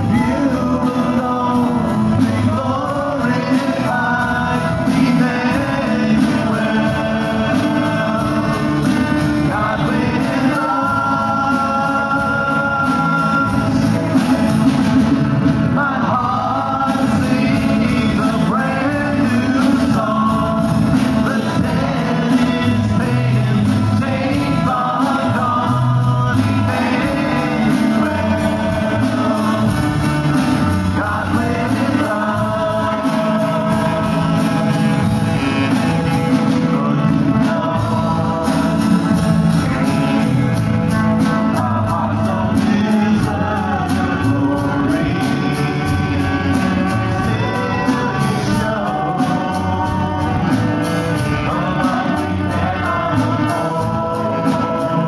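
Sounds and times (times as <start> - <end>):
strummed acoustic guitars: 0.0 - 55.0
voices singing together: 0.0 - 55.0.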